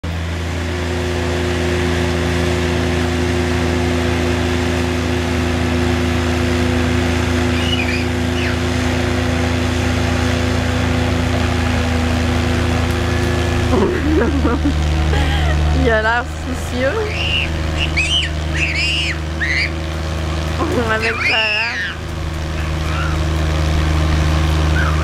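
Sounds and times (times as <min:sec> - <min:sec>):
amphibious vehicle engine droning: 0:00.0 - 0:25.0.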